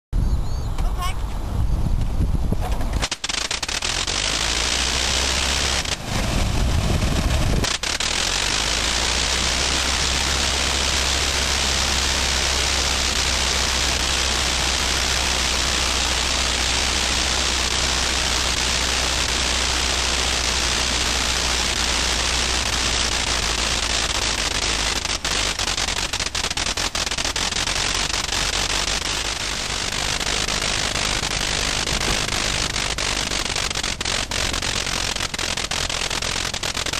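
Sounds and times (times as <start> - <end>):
aircraft engine roaring: 2.7 - 36.9.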